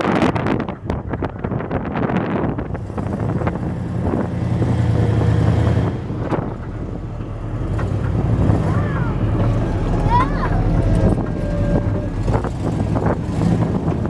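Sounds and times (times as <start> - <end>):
truck engine running under load: 0.0 - 14.0
wind buffeting microphone: 0.0 - 14.0.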